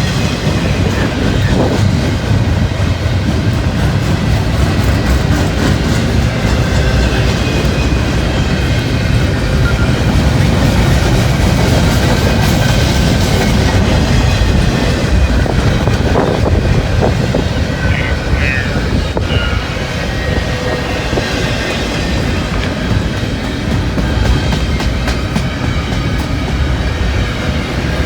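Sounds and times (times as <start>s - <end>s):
train wheels rolling over rails: 0.0s - 28.0s.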